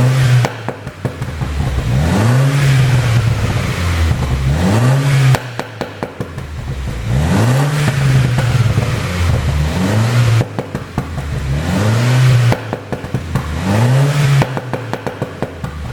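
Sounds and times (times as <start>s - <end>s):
car engine revving: 0.0s - 15.9s
exhaust crackling and popping: 0.0s - 15.9s.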